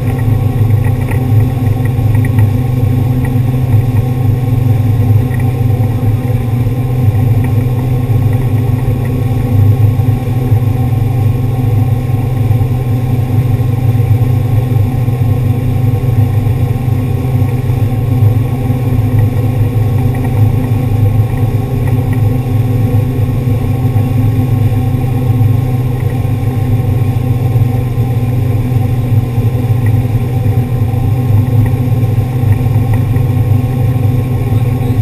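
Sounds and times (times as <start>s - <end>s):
boat engine humming: 0.0s - 35.0s.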